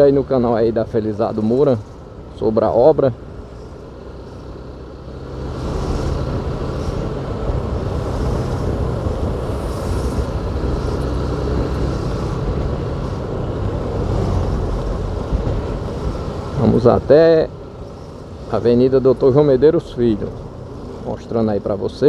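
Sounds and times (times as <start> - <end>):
car engine running: 0.0 - 22.0
road noise: 0.0 - 22.0.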